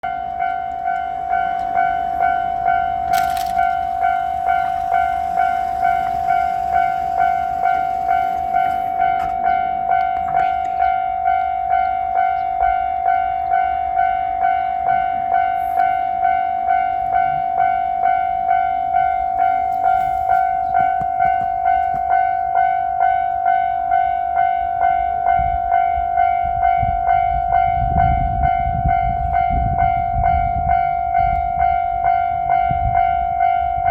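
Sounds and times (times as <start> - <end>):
level crossing warning bell: 0.0 - 33.9
low rumble of freight train: 0.0 - 33.9.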